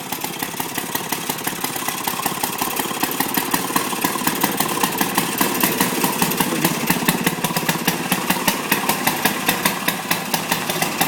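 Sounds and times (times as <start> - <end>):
small two-stroke engine running: 0.0 - 11.0.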